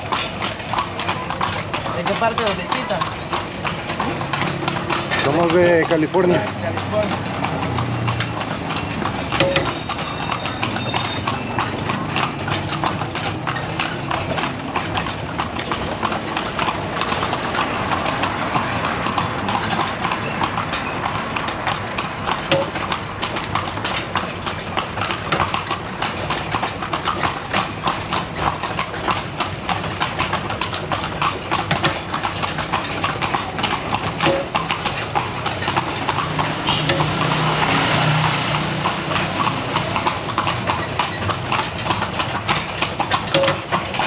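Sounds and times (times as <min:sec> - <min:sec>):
horse hooves clip-clopping on pavement: 0:00.0 - 0:44.0.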